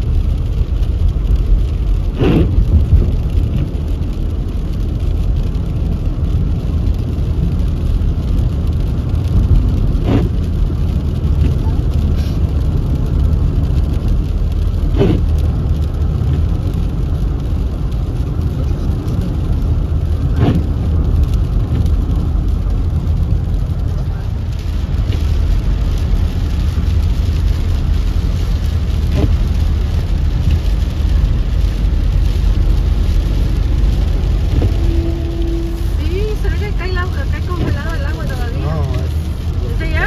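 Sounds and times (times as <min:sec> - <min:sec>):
car cabin road rumble: 0:00.0 - 0:40.0.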